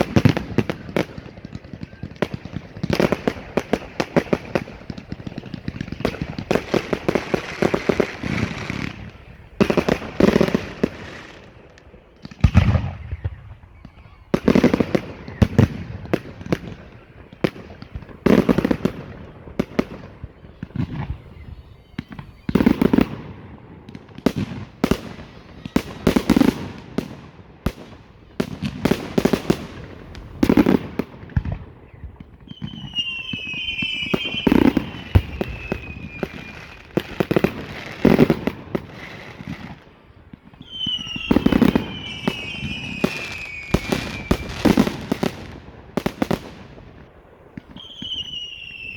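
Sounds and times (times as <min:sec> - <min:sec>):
high falling firework whistles: 0:00.0 - 0:23.4, 0:28.8 - 0:39.8, 0:40.5 - 0:45.6, 0:47.6 - 0:48.9
fireworks crackling: 0:00.0 - 0:48.9.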